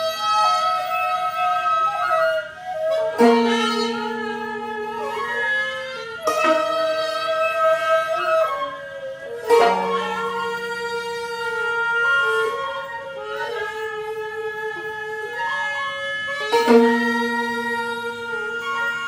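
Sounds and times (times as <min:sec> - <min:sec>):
held flute and bowed string notes: 0:00.0 - 0:19.0
plucked zither notes: 0:01.9 - 0:19.0.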